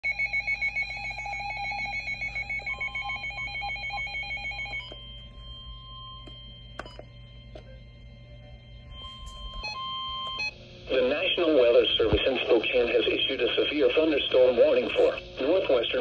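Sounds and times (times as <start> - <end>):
steady alarm tone: 0.0 - 15.8.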